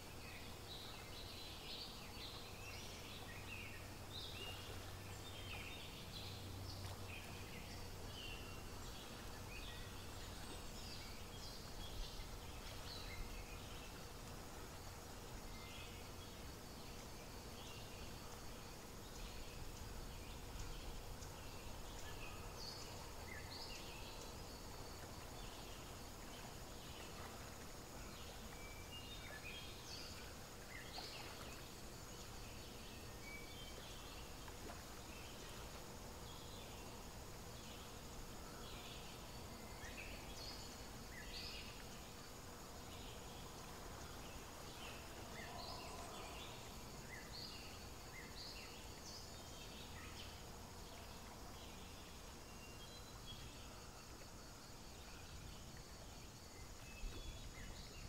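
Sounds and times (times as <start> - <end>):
steady low hiss: 0.0 - 58.0.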